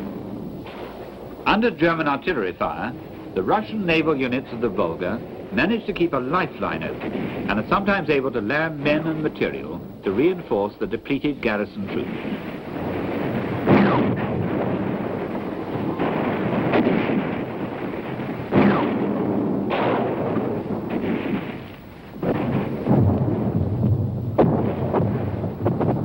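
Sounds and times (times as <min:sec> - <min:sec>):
artillery explosions booming: 0:00.0 - 0:26.0
continuous rumbling: 0:00.0 - 0:26.0.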